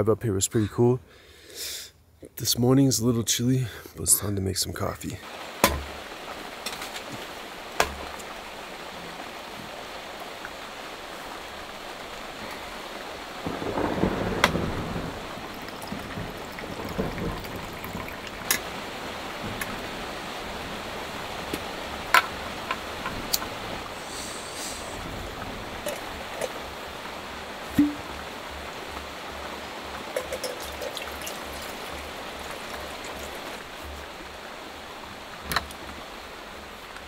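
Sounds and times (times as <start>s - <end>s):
rain falling: 2.5s - 37.0s.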